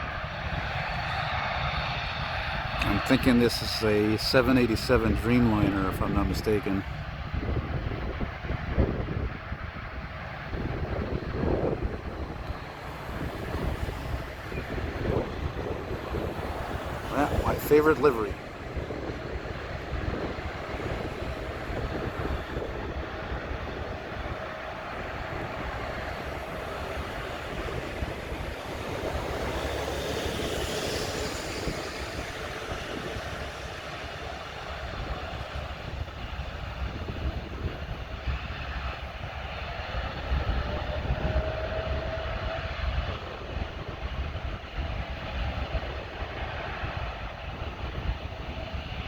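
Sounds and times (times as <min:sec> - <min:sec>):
gusty low rumble: 0:00.0 - 0:49.0
jet airliner passing over: 0:00.0 - 0:49.0
faint rising whine: 0:00.2 - 0:42.6.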